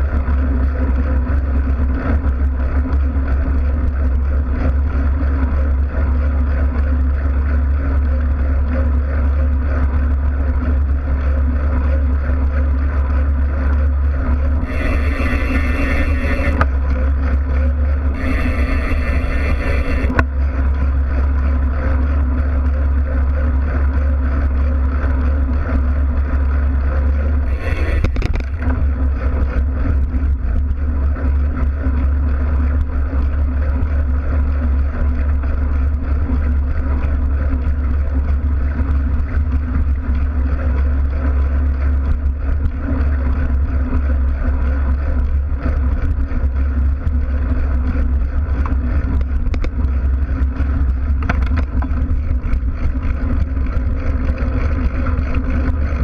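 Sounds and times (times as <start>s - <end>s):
bike tyres rumbling on road: 0.0s - 56.0s.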